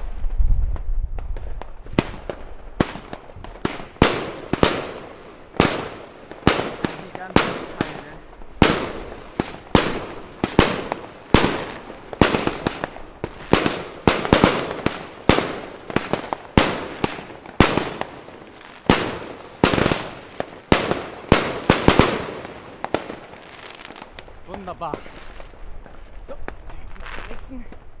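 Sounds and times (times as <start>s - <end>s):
firework battery bangs crackling: 1.3s - 28.0s.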